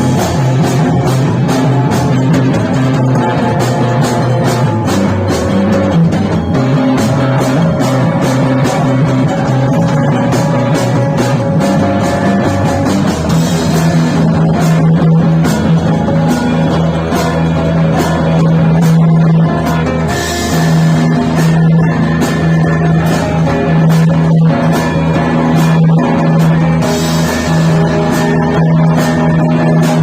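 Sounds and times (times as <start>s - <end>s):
distorted guitar: 0.0s - 30.0s
drum beat with cymbal hits: 0.0s - 30.0s
rock band jamming: 0.0s - 30.0s.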